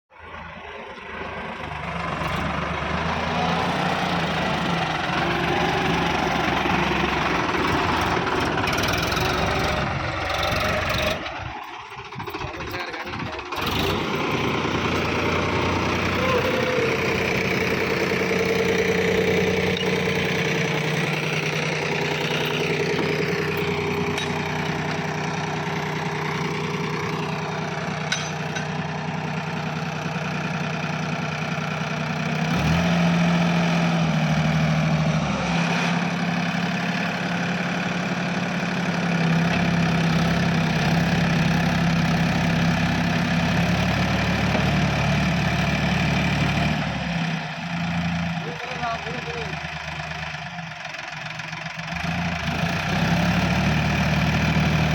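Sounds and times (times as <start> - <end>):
diesel engine running and revving: 0.1 - 54.9.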